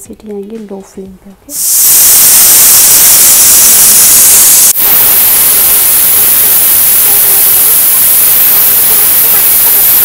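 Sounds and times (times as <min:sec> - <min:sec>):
pressure cooker whistle hissing: 0:01.5 - 0:10.0.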